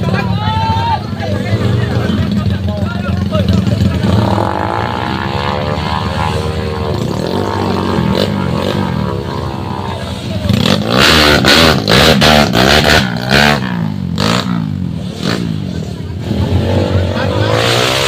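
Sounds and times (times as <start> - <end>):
motorcycle engine revving: 1.1 - 18.0.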